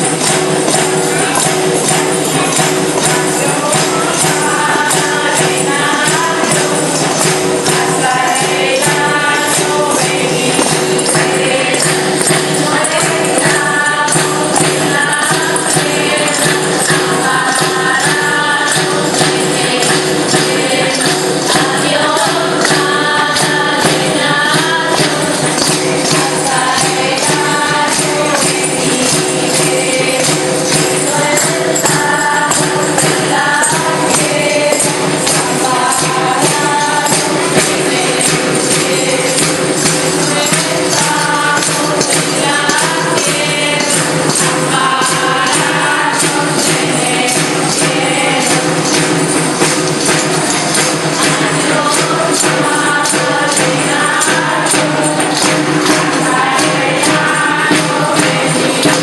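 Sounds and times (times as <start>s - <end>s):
tambourines jingling: 0.0s - 59.0s
voices singing a folk song: 0.0s - 59.0s.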